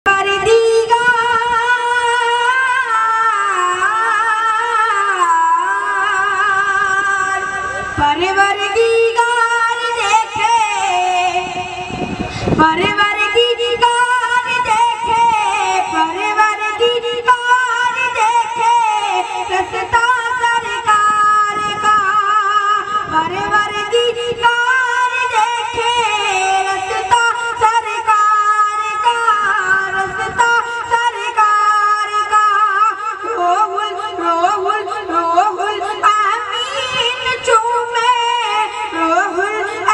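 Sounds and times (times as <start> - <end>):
boy singing into a microphone: 0.0 - 39.9.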